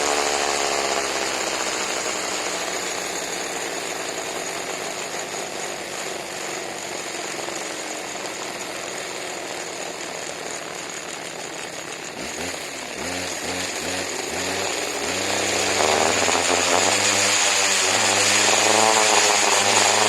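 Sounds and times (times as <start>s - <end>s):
weed eater engine revving: 0.0s - 20.0s.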